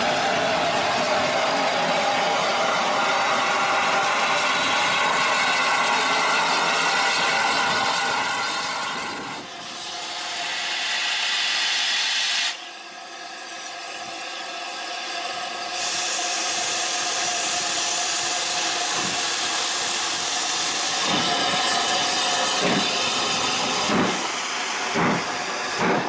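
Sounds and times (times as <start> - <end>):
steam engine hissing: 0.0 - 26.0.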